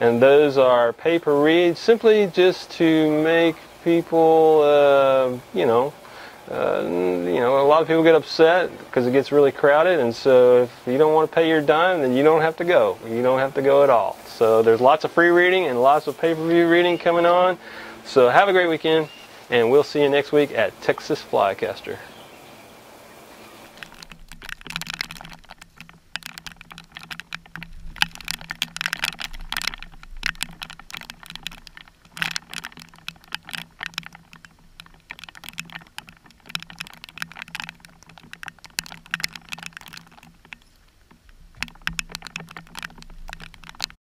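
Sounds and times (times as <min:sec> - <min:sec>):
raindrops tapping on camera housing: 0:00.0 - 0:22.1, 0:23.3 - 0:44.0.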